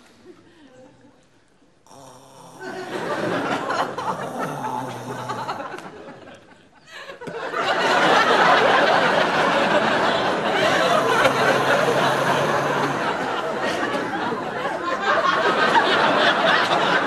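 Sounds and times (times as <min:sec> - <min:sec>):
studio audience laughing: 0:02.6 - 0:17.0.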